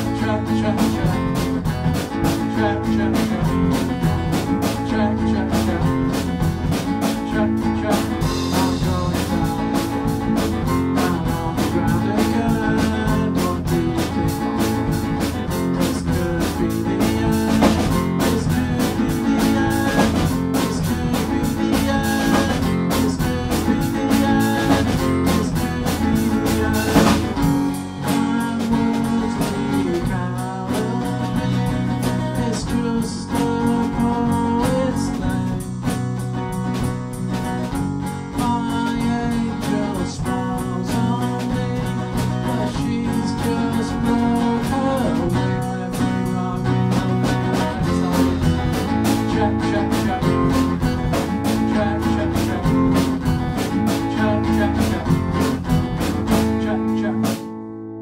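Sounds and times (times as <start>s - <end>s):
drum kit: 0.0s - 57.8s
electric bass: 0.0s - 58.0s
strummed guitar: 0.0s - 58.0s.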